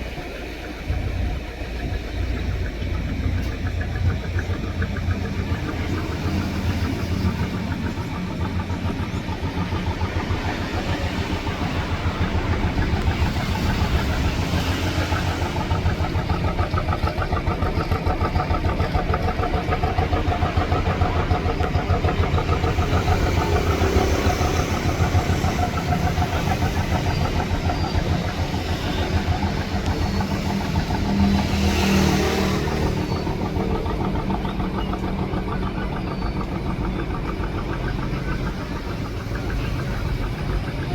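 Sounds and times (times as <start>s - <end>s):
boat engine chugging: 0.0s - 40.9s.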